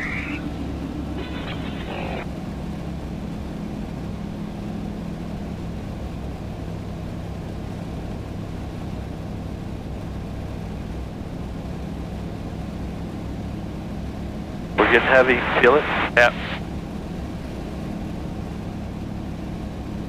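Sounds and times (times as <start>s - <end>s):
aircraft engine and propeller droning: 0.0s - 20.0s.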